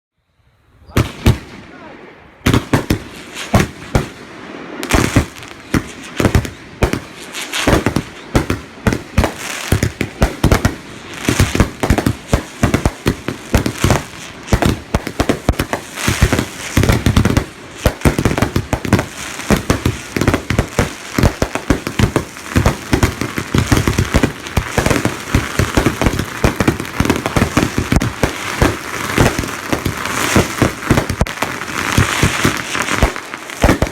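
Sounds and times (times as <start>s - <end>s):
fireworks banging and crackling: 1.0s - 1.6s, 2.4s - 33.9s.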